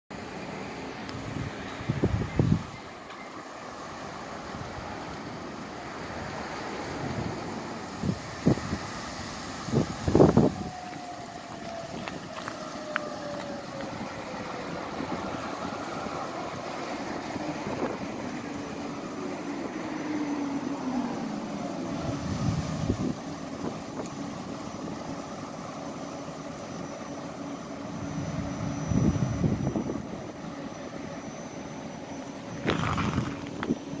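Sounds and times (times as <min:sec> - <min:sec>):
electric tram motor whine: 0:00.2 - 0:34.0
wind buffeting microphone: 0:01.1 - 0:02.9, 0:04.4 - 0:26.6, 0:27.4 - 0:31.2, 0:32.4 - 0:34.0.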